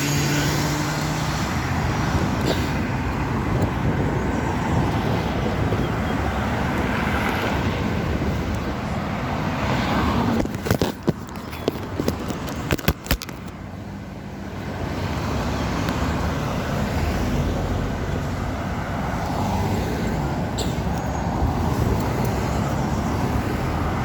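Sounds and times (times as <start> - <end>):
passing cars rumbling: 0.0 - 24.0.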